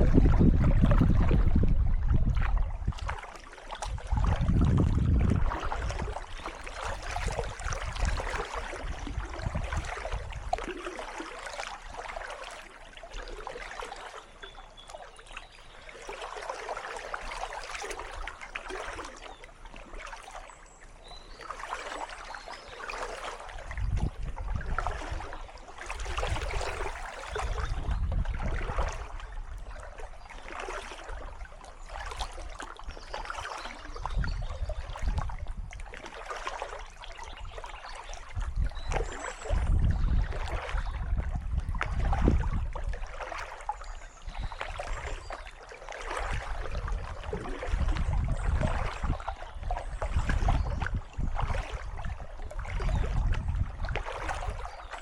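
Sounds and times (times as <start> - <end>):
paddle strokes splashing water: 0.0 - 55.0.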